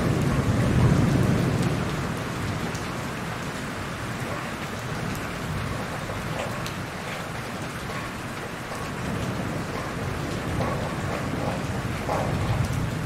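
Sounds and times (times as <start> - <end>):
heavy rain hissing: 0.0 - 13.0
raindrop ticks: 0.0 - 13.0
thunder rumble: 0.0 - 13.0.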